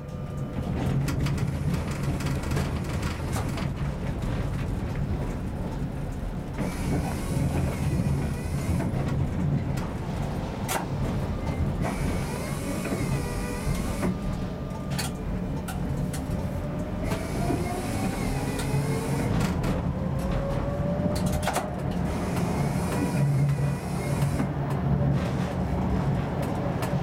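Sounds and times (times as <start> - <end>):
tram wheels rumbling on track: 0.0 - 27.0.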